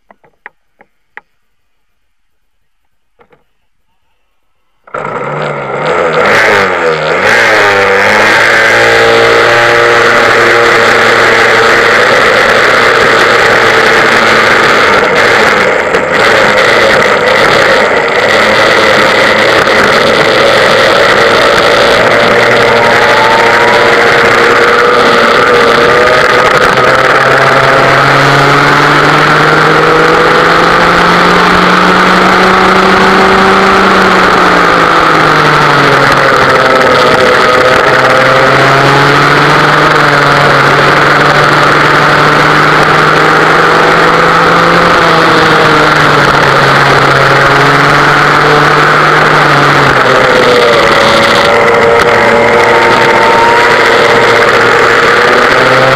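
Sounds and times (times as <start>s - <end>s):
two-stroke kart engine revving: 4.8s - 55.9s.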